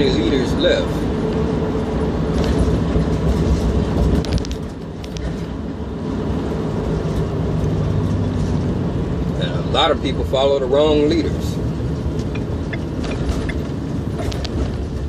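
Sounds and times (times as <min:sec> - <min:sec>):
car rumble from inside cabin: 0:00.0 - 0:15.0.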